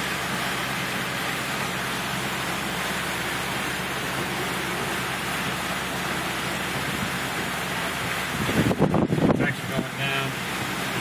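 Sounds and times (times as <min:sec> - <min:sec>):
car driving through flood water: 0:00.0 - 0:11.0
heavy rain on a car: 0:00.0 - 0:11.0.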